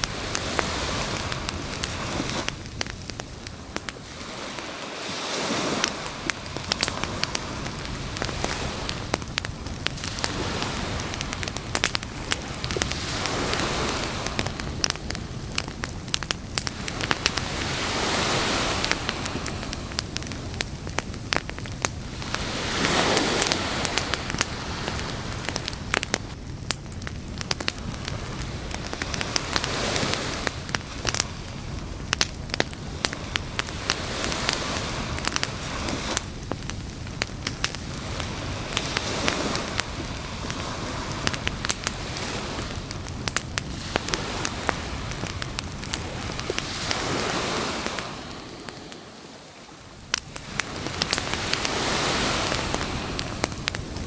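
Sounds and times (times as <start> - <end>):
beach surf waves: 0.0 - 54.0
campfire crackling and popping: 0.0 - 54.0.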